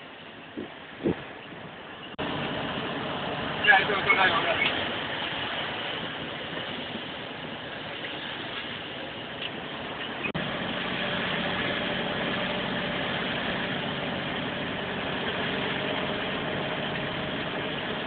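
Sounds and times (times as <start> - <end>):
vehicle engine running: 2.0 - 18.0.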